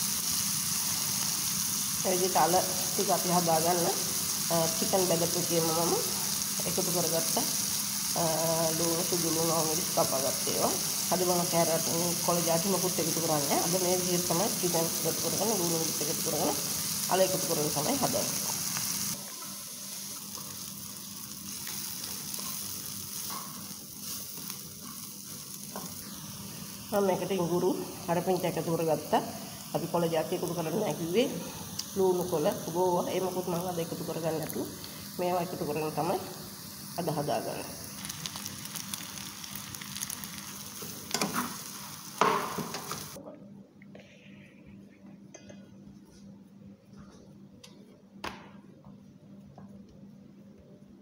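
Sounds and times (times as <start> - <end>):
vegetables sizzling in oil: 0.0 - 43.2.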